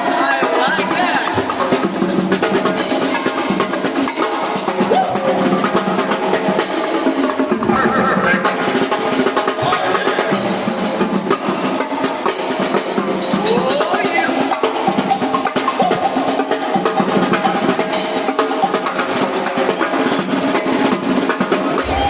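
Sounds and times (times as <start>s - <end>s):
drum-heavy music: 0.0s - 18.4s, 20.7s - 22.0s.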